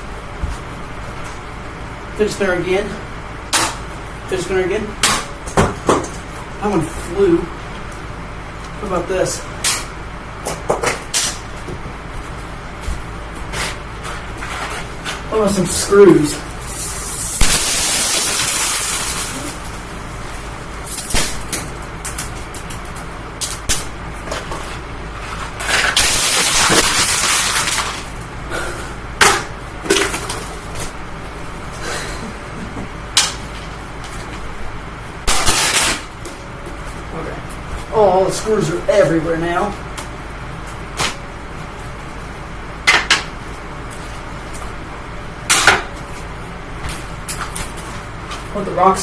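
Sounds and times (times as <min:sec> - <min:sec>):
fan low steady hum: 0:00.0 - 0:49.0.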